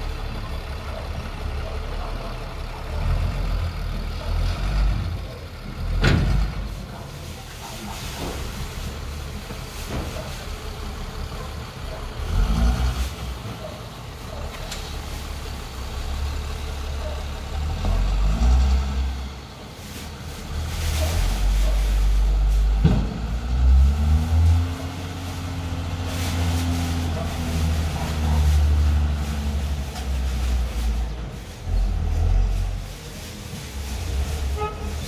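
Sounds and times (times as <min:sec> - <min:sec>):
truck diesel engine revving: 0:00.0 - 0:06.9, 0:10.4 - 0:33.1.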